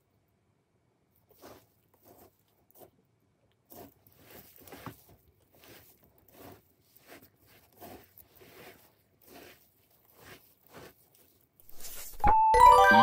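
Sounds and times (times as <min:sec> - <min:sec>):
hands squishing and crunching mash: 0:01.1 - 0:12.3.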